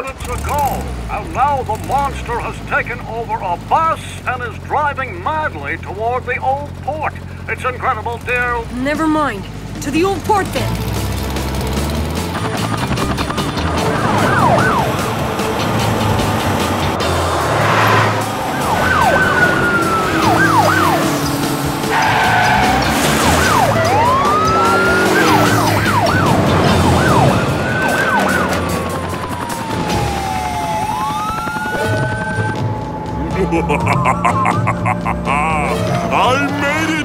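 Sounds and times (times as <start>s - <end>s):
police car sirens: 0.0s - 37.0s.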